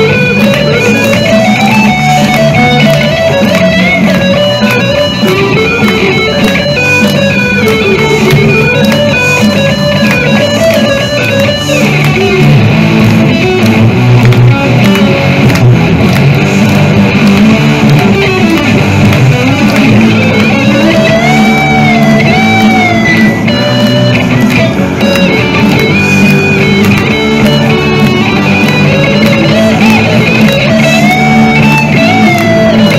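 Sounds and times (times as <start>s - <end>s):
electric guitars playing rock: 0.0s - 32.9s.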